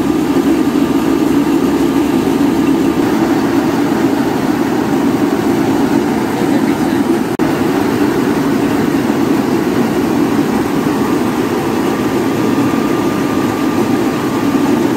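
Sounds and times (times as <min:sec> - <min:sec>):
rice mill machinery running: 0:00.0 - 0:14.9.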